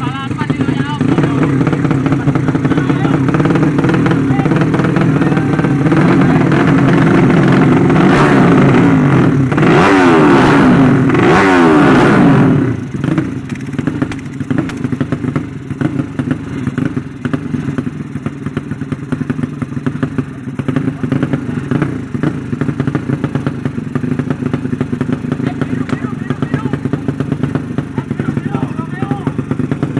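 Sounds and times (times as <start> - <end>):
motorcycles racing at full throttle: 0.0 - 29.9.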